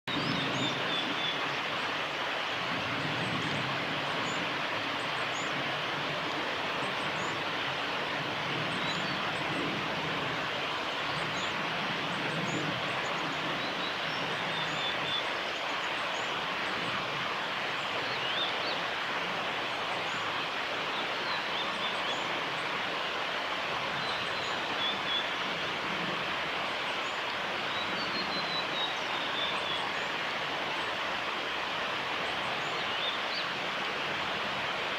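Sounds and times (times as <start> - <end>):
loud steady rushing noise: 0.1 - 34.9.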